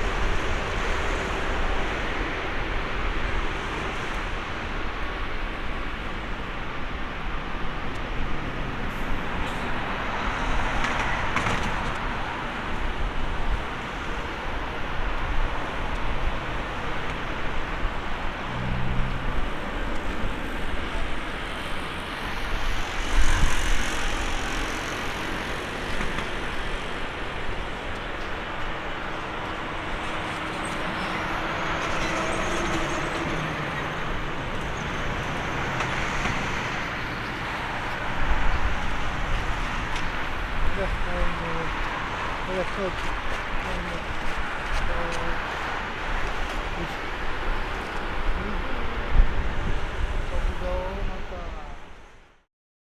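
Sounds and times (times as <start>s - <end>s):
jet engines roaring at takeoff: 0.0s - 52.1s.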